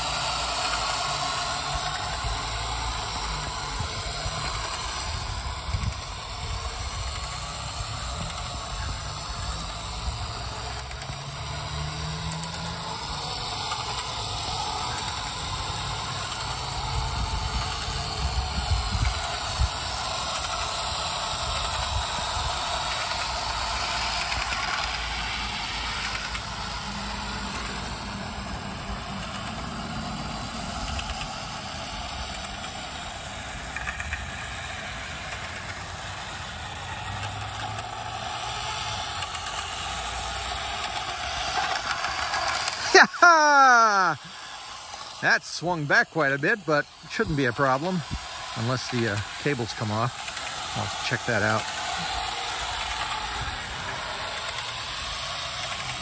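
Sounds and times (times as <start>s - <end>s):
sharp clacks of wheels: 0.0s - 43.5s, 46.3s - 56.0s
model train rumbling on track: 0.0s - 56.0s.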